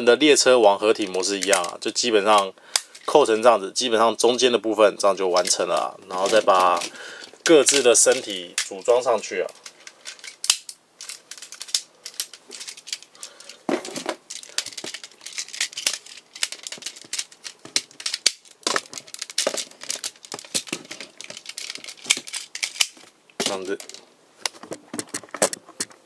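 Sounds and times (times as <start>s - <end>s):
plastic toy parts clicking: 0.9s - 3.5s, 5.3s - 26.0s.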